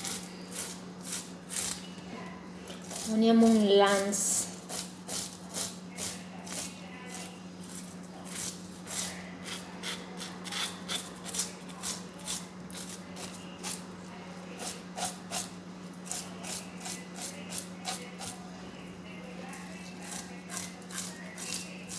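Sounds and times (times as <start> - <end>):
knife scraping fish scales: 0.0 - 1.9, 2.8 - 3.6, 4.6 - 13.8, 14.5 - 18.4, 19.9 - 21.9
steady low hum: 0.0 - 21.9.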